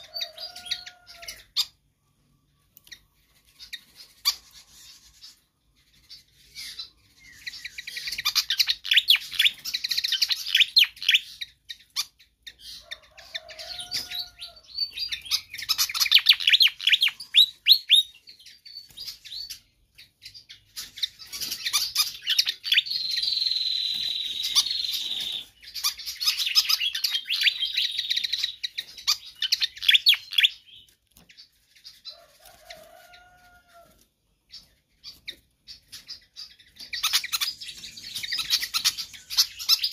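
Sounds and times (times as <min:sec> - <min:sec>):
bird chattering song: 0:00.0 - 0:32.1, 0:34.4 - 0:39.9.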